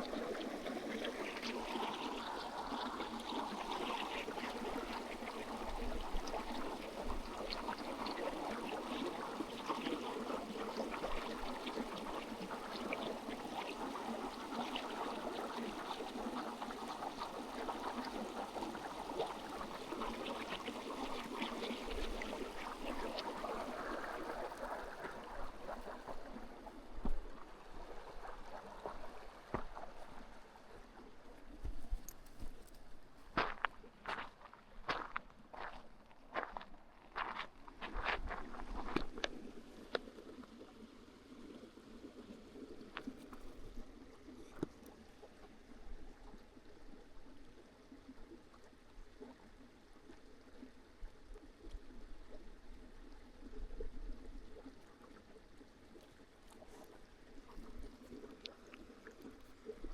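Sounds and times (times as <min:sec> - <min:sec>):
small stream babbling: 0:00.0 - 0:59.9.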